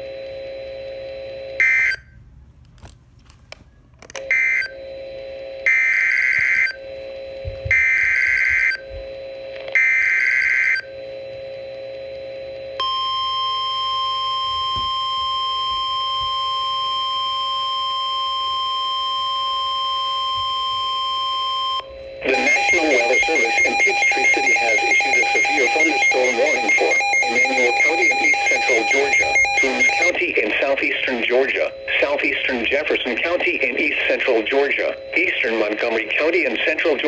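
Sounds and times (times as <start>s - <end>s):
steady warning alarm tone: 4.2s - 11.7s, 12.3s - 37.0s.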